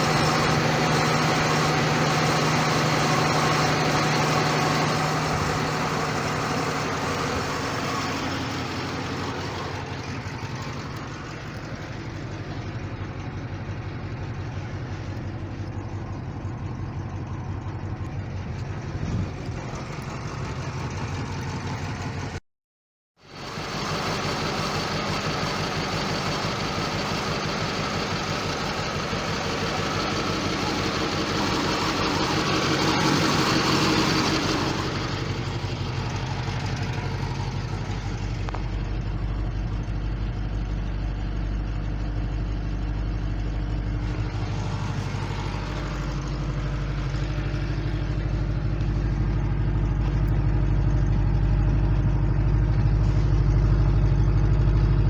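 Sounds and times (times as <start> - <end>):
car engine idling: 0.0 - 22.4, 23.3 - 55.0.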